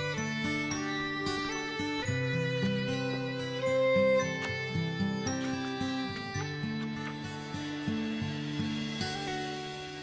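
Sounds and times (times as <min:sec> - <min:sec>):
gentle instrumental background music: 0:00.0 - 0:10.0.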